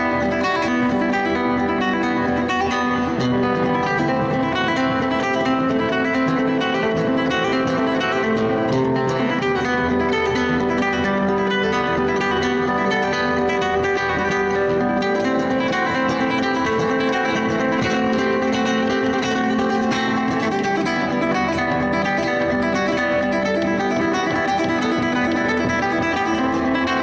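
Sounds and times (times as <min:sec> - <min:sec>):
flamenco-like acoustic guitar: 0:00.0 - 0:27.0.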